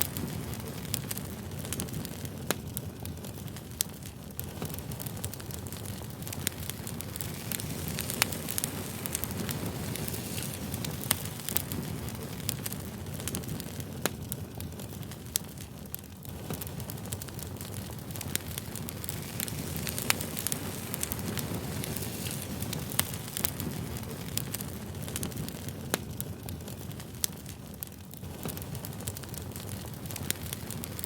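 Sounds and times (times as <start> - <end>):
campfire flames rushing: 0.0 - 31.0
fire crackles and pops: 0.0 - 31.0.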